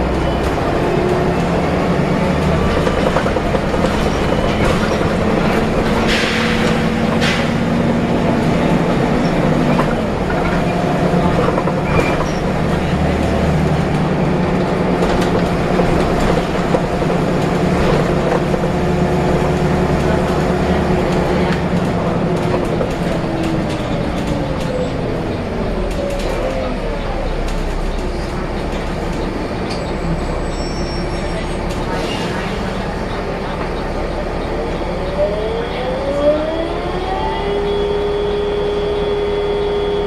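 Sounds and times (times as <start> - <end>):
bus engine droning: 0.0 - 40.0.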